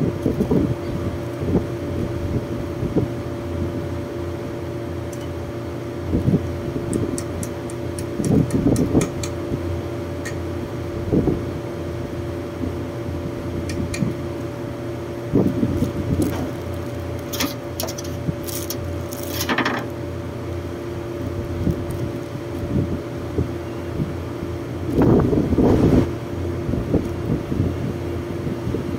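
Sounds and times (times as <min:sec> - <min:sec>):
air conditioning units humming: 0:00.0 - 0:28.9.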